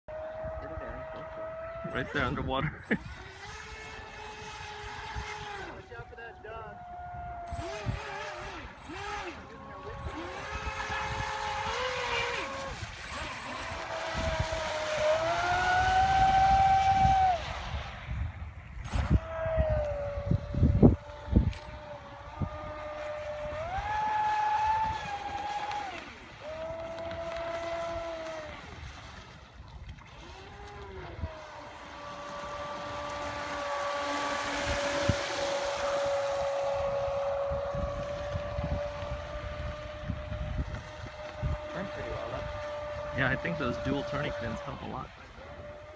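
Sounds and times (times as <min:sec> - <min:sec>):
electric motor boats whining: 0:00.1 - 0:45.9.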